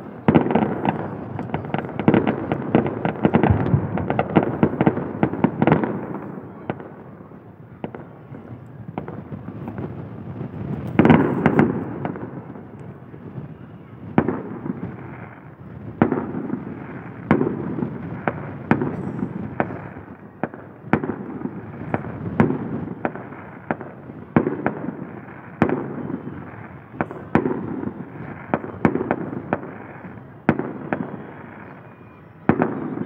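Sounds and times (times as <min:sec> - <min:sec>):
fireworks bangs with echo: 0:00.0 - 0:33.0.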